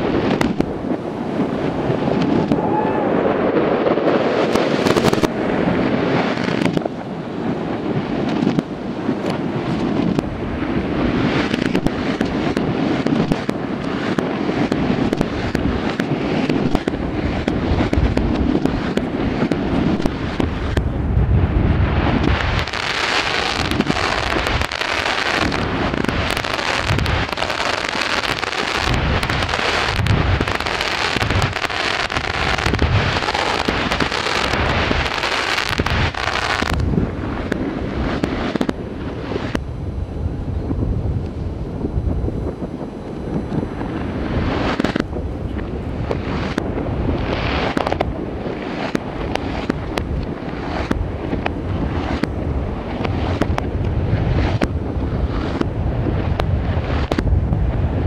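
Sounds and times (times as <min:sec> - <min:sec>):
deep fireworks booms: 0:00.0 - 0:58.0
fireworks bangs and crackles: 0:00.0 - 0:58.0.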